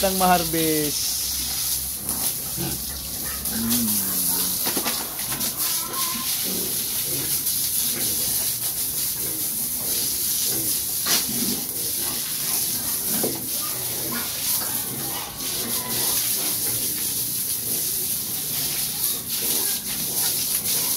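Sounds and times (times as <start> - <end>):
hose water jet spraying: 0.0 - 20.9
pigs grunting: 2.0 - 8.4, 9.2 - 16.9, 17.6 - 20.9.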